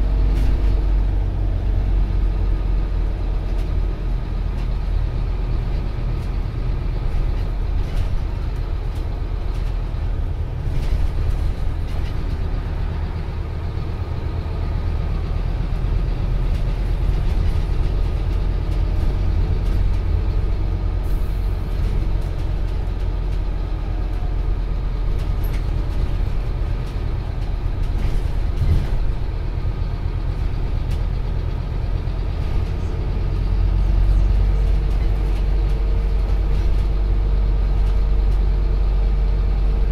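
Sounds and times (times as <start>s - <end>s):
bus diesel engine droning: 0.0s - 39.9s
road rumble: 0.0s - 39.9s.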